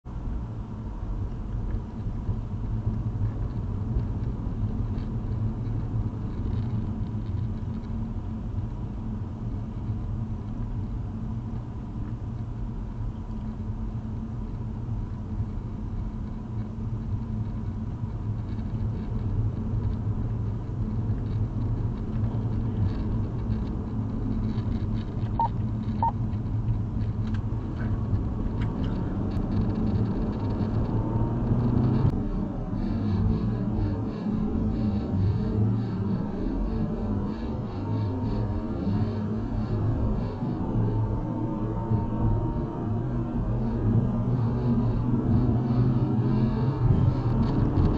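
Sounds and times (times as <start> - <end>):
car cabin road noise: 0.1 - 47.9.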